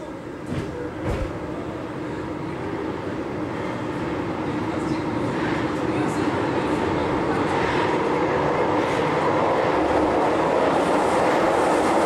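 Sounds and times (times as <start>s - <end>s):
metro train running noise: 0.0s - 12.0s.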